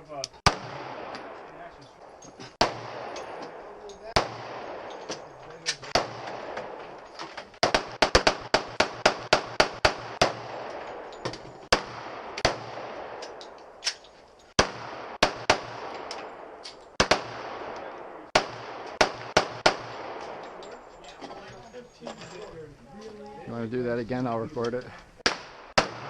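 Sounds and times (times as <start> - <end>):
gunshots with short echo: 0.4 - 20.6, 25.2 - 26.0.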